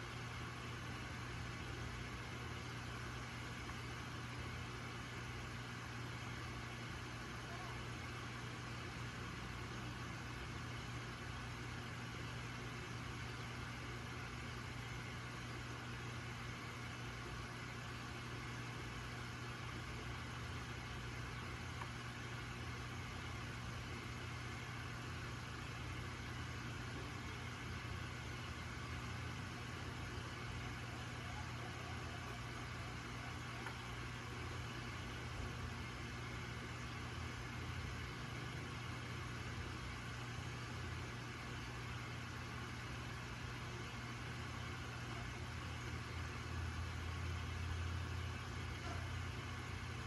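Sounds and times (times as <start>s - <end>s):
aquarium pump humming: 0.0s - 50.0s
constant hiss: 0.0s - 50.0s.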